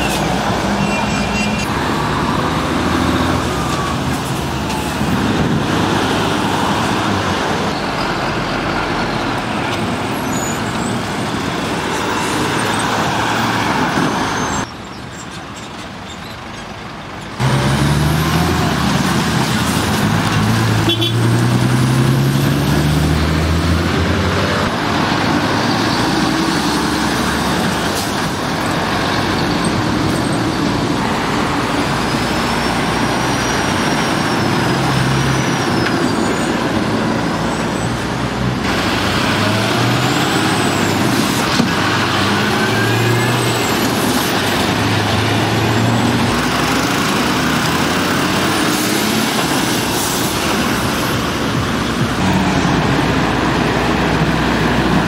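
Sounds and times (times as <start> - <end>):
lorry diesel engines running: 0.0 - 55.0
road traffic noise: 0.0 - 55.0.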